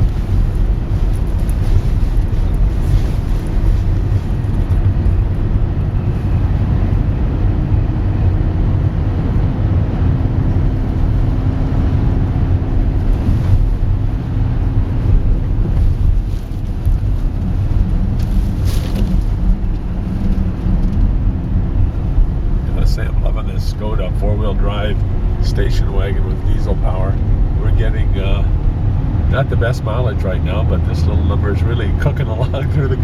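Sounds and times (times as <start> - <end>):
car driving through slush: 0.0 - 33.0
faint engine hum: 0.0 - 33.0.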